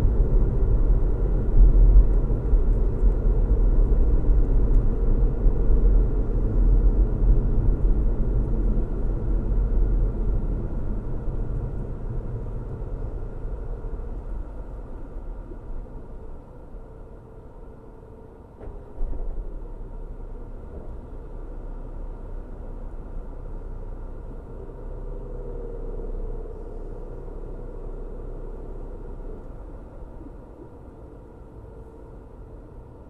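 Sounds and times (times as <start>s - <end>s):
car road and engine rumble: 0.0s - 33.0s
faint steady hum: 0.0s - 33.0s.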